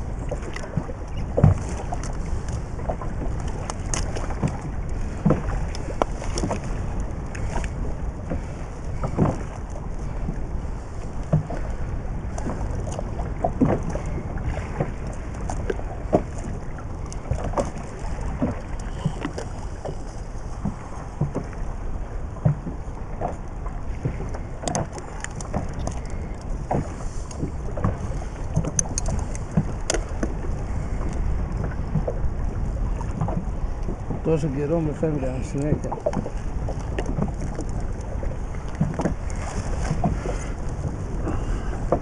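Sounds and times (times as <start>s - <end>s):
low rumble of wind and water: 0.0s - 42.0s.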